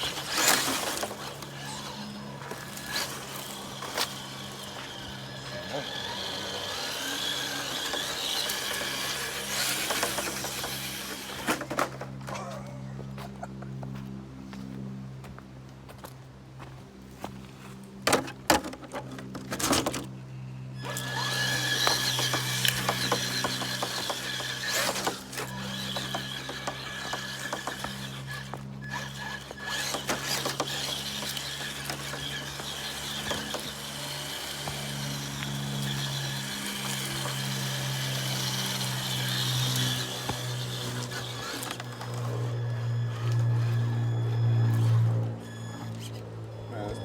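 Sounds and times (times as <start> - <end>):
electric motor whine: 0.0 - 12.3, 18.4 - 47.0
tires clicking and scraping on rock: 0.0 - 47.0.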